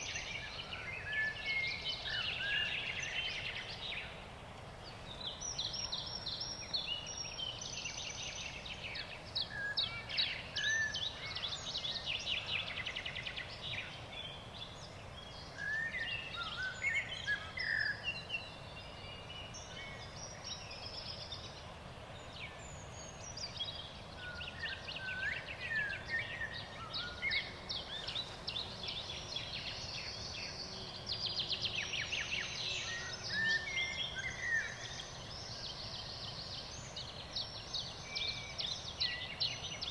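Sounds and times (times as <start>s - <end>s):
low background hiss: 0.0s - 39.9s
songbirds singing: 0.0s - 39.9s.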